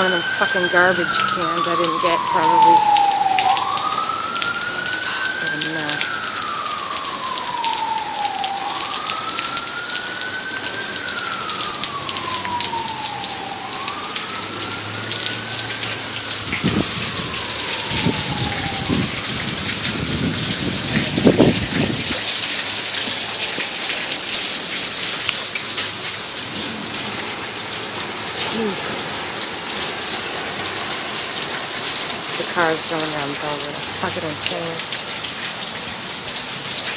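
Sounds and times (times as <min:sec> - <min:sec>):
emergency siren wailing: 0:00.0 - 0:36.9
heavy rain pouring: 0:00.0 - 0:36.9.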